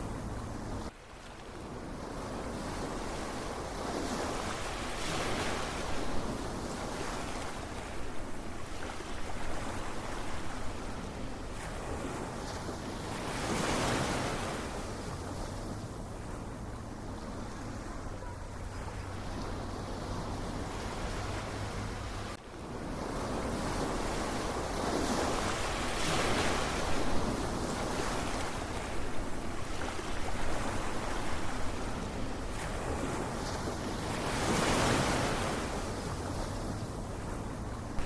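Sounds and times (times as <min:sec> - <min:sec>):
ocean surf: 0:00.0 - 0:38.0.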